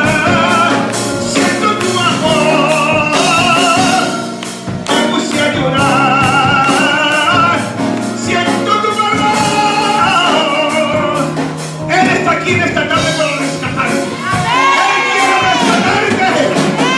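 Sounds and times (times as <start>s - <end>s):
man singing into a microphone: 0.0s - 14.2s, 14.8s - 16.9s
instrumental backing: 0.0s - 16.9s.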